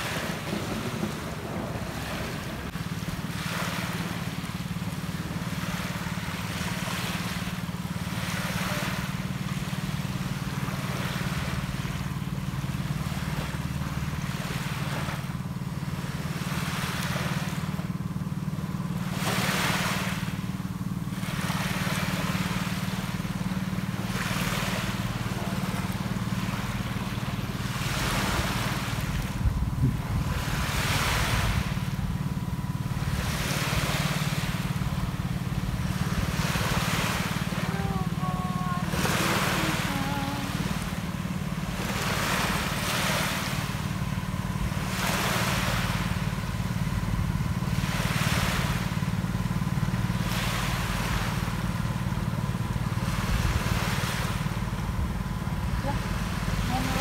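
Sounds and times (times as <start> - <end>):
low engine drone: 0.0 - 57.0
waves washing onto beach: 0.0 - 57.0.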